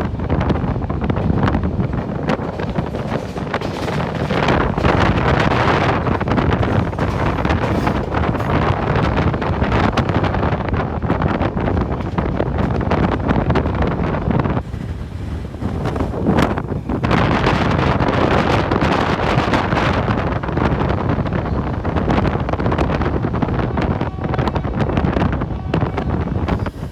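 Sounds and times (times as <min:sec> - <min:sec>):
train running noise: 0:00.0 - 0:26.9
wind buffeting microphone: 0:00.0 - 0:26.9.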